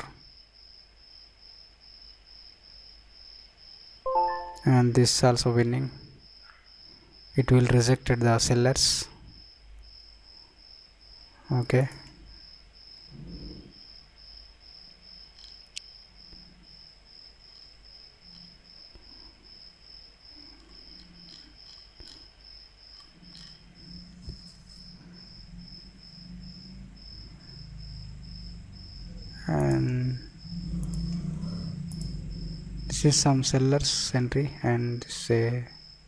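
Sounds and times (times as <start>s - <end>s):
cricket chirping: 0.0s - 36.0s.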